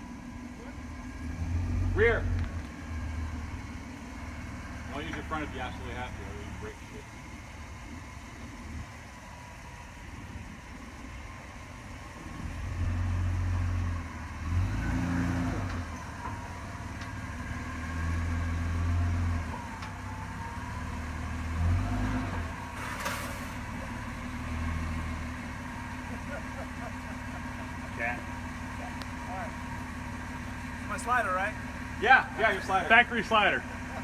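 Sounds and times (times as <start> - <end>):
engine revving and idling: 0.0 - 34.0.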